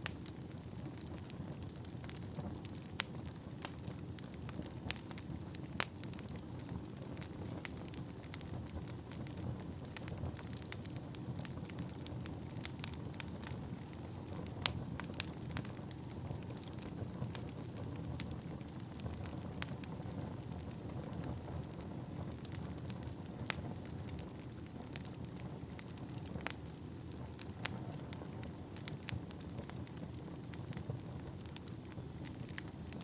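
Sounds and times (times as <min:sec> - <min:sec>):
burning logs crackling and popping: 0:00.0 - 0:33.0
fire flames rumbling: 0:00.0 - 0:33.0.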